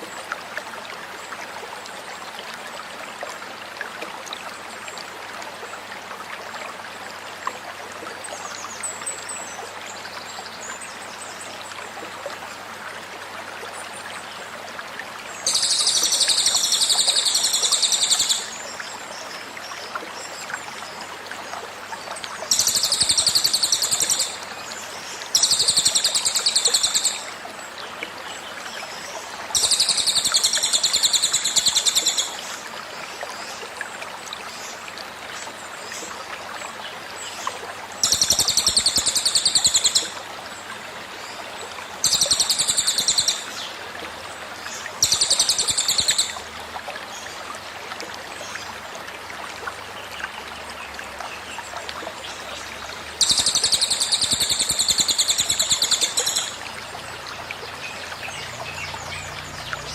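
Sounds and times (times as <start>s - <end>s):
flowing stream rushing: 11.2s - 59.9s.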